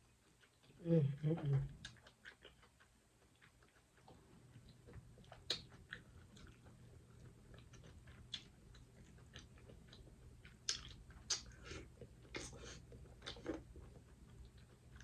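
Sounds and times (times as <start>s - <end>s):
chewing and mouth sounds: 0.0s - 15.0s.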